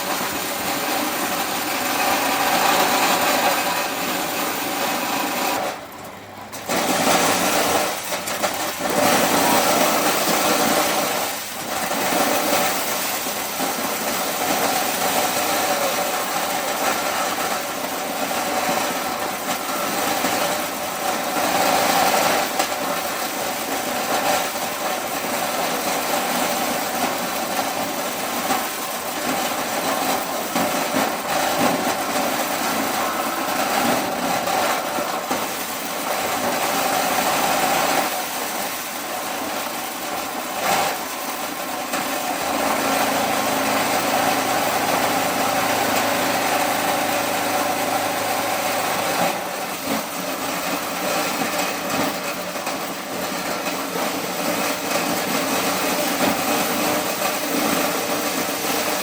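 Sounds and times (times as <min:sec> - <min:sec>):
corn-shelling machine running: 0:00.0 - 0:59.0.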